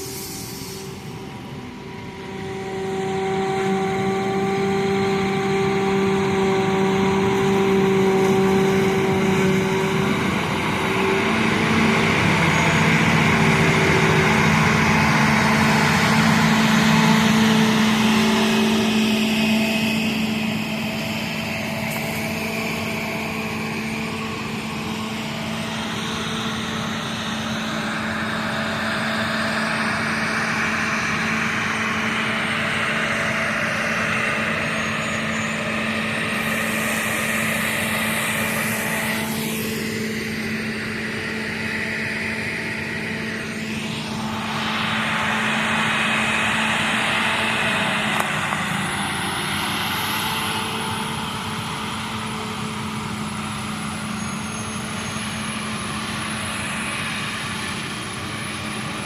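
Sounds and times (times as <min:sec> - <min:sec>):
farm machinery engine drone: 0:00.0 - 0:59.0
thin high whine: 0:00.0 - 0:59.0.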